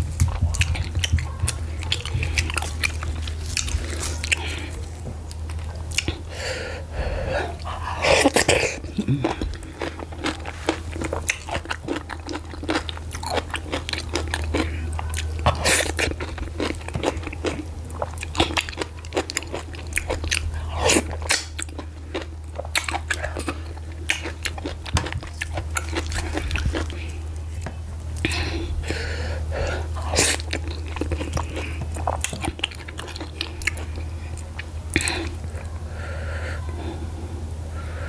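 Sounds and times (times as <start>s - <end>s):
close-miked chewing and biting: 0.0s - 6.3s, 7.5s - 29.0s, 29.6s - 35.8s
steady low hum: 0.0s - 38.0s.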